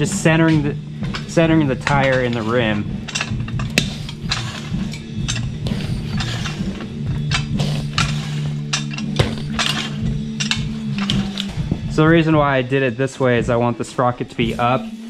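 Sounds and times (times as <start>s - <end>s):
metallic clinks and knocks: 0.0s - 12.1s
background music: 0.0s - 15.0s.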